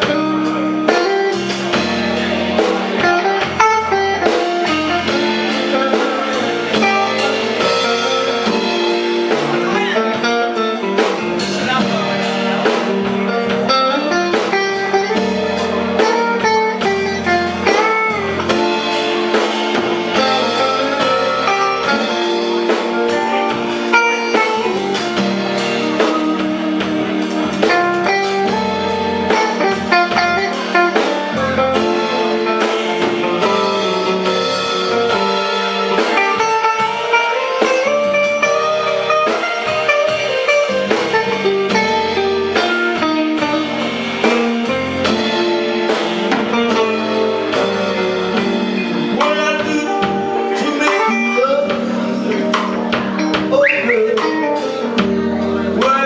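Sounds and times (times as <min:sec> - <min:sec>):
electric guitar: 0:00.0 - 0:56.0
live band playing: 0:00.0 - 0:56.0.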